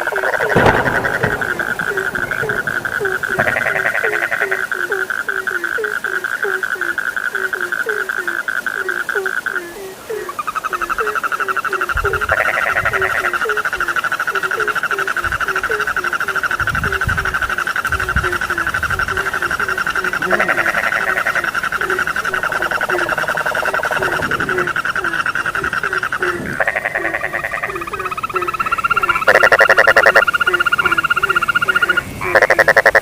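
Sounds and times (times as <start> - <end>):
frog low croak: 0.0 - 33.0
frogs trilling: 0.0 - 33.0
loud pulsed frog call: 0.0 - 33.0.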